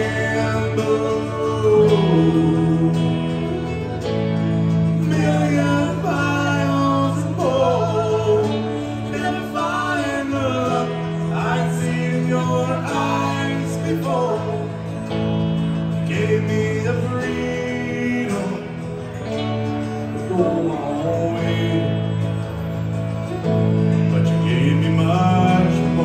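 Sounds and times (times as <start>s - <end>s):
acoustic guitar chords: 0.0s - 26.0s
fiddle melody: 0.0s - 26.0s.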